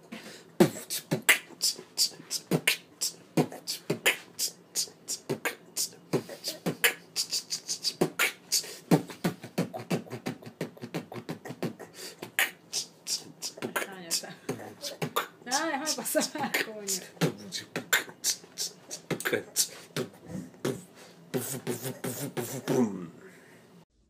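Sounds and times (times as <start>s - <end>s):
person beatboxing: 0.0s - 23.2s.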